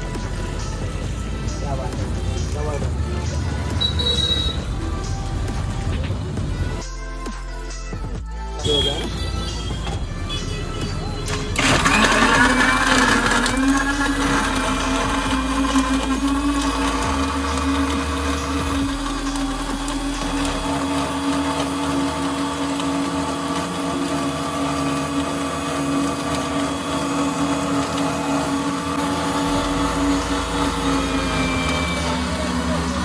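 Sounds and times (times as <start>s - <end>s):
mixer grinder motor humming: 0.0s - 4.6s, 8.6s - 33.0s.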